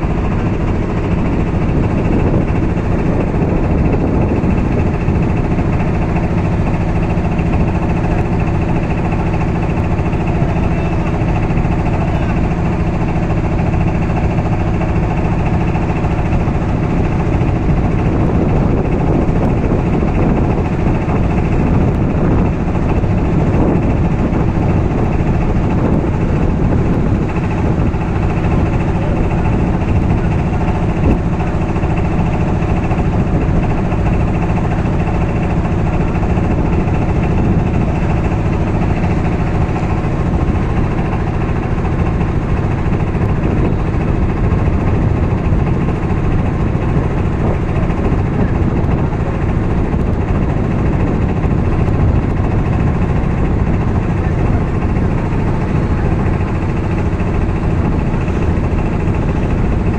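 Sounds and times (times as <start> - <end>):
boat engine drone: 0.0 - 59.9.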